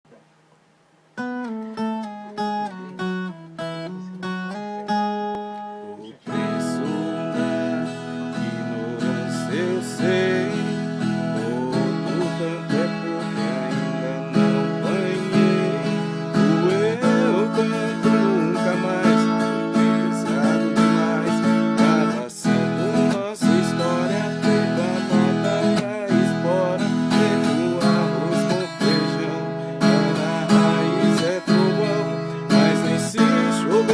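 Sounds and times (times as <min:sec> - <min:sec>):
folk guitar playing: 0:01.0 - 0:33.9.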